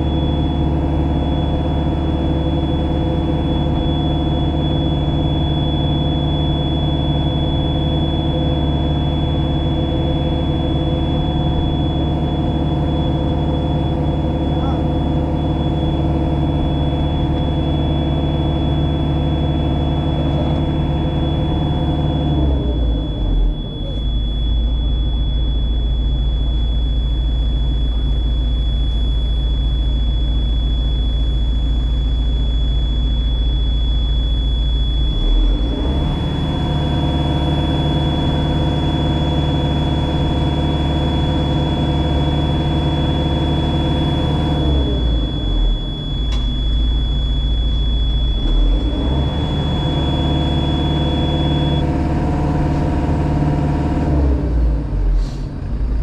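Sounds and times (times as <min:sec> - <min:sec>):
thin high whine: 0:00.0 - 0:51.8
diesel engine running: 0:00.0 - 0:56.0.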